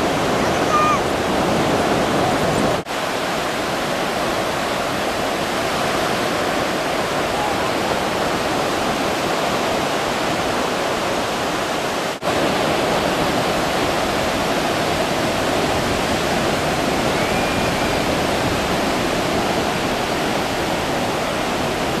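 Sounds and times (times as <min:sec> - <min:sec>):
breaking surf: 0:00.0 - 0:22.0.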